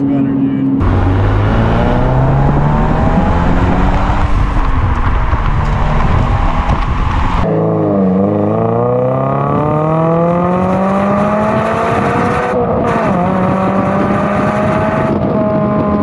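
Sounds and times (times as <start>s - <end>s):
road and wind noise: 0.0s - 16.0s
car exhaust accelerating: 0.7s - 16.0s.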